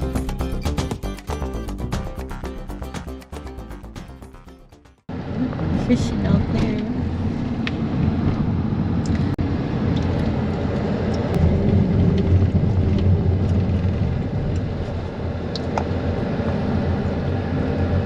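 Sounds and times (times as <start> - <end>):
vehicle and road noise: 0.0 - 18.0.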